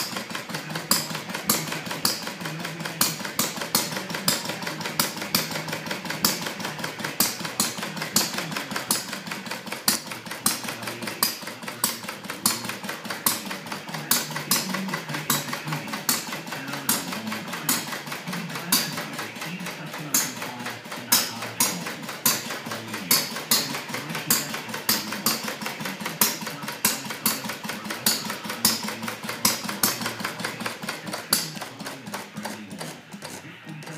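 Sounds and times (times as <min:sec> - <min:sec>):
engine pops: 0:00.0 - 0:33.9
model engine clicking: 0:00.0 - 0:33.9.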